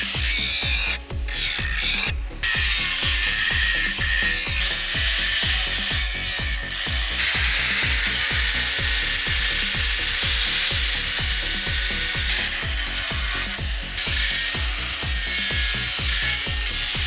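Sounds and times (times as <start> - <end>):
abrasive tool grinding hiss: 0.0 - 17.0
music with fast beat: 0.0 - 17.0.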